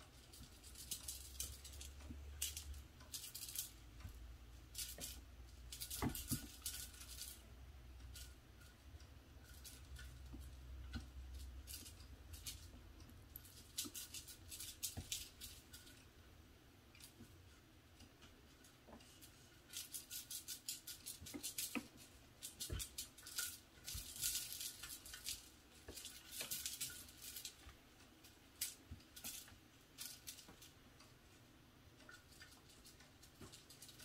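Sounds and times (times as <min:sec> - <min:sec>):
wire spring toy rattling: 0:00.0 - 0:16.2, 0:16.9 - 0:34.0.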